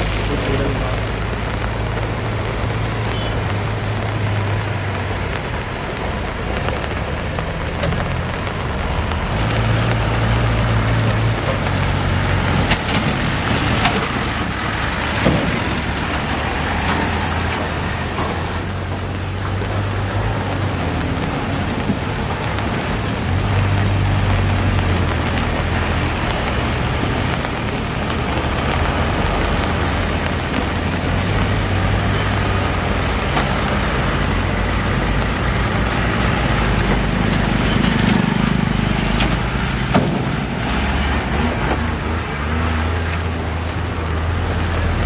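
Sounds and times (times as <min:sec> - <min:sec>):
diesel truck engines humming: 0:00.0 - 0:45.0
tyre noise on wet road: 0:00.0 - 0:45.0.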